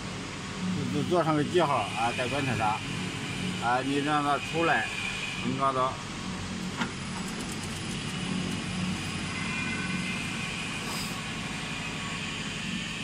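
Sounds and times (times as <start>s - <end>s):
printing press whirring: 0.0s - 13.0s.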